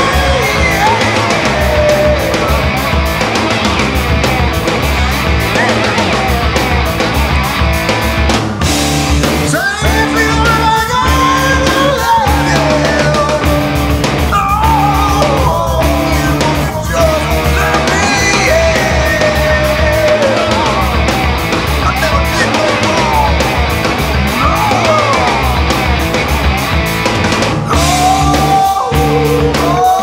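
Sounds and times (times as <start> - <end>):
rock music with singing: 0.0 - 30.0.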